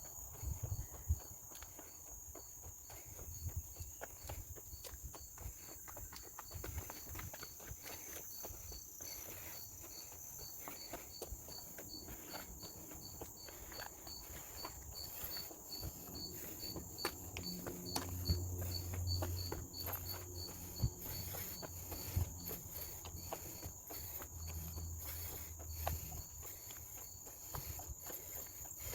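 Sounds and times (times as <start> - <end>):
footsteps on a trail: 0.0 - 28.9
insects buzzing and chirping: 0.0 - 28.9.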